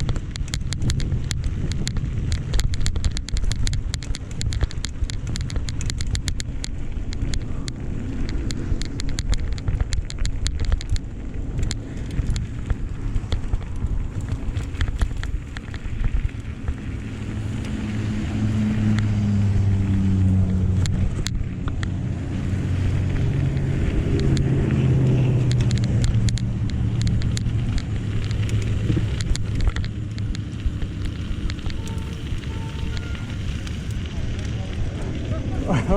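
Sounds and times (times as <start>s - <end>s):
rapid crackle of sharp clicks: 0.0s - 35.9s
vehicle engine hum: 0.0s - 35.9s
wind noise: 0.0s - 35.9s.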